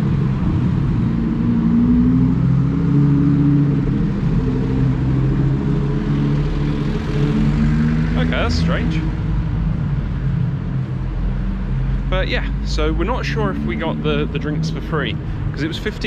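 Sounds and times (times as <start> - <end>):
sports car engine running: 0.0 - 16.0.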